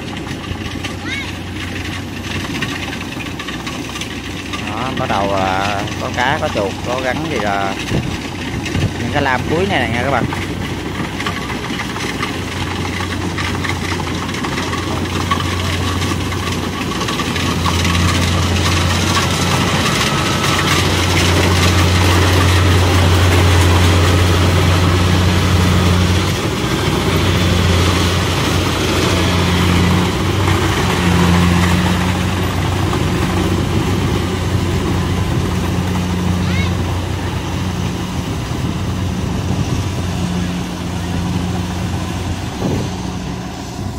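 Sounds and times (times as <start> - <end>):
combine harvester engine humming: 0.0 - 43.9
machinery clattering: 0.0 - 43.9.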